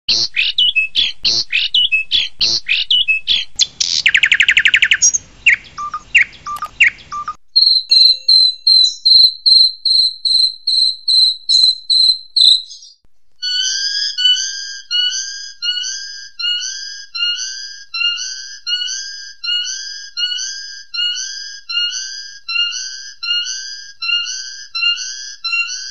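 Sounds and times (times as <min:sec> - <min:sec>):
bird singing: 0:00.1 - 0:25.9
high whistled bird notes: 0:00.1 - 0:25.9
sharp bird calls and buzzy trill: 0:00.1 - 0:25.9.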